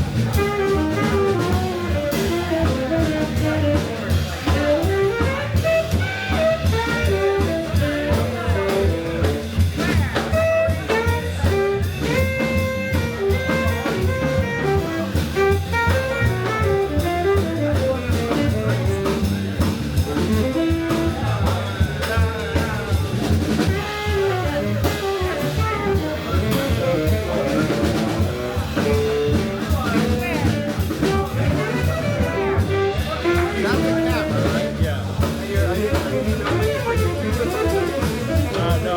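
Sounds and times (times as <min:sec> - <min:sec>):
drum kit and cymbals: 0:00.0 - 0:38.9
walking bass line: 0:00.0 - 0:38.9.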